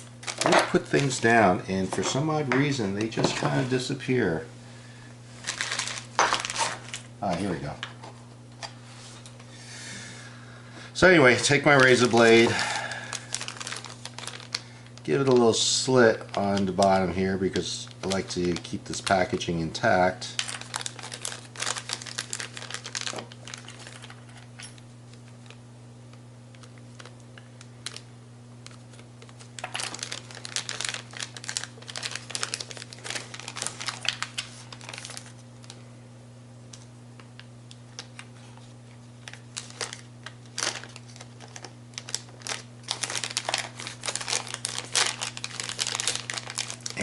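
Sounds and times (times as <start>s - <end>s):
steady low hum: 0.0s - 47.0s
packaging crinkling and rustling: 0.1s - 3.8s, 5.4s - 9.4s, 11.0s - 25.6s, 26.5s - 35.8s, 37.2s - 47.0s.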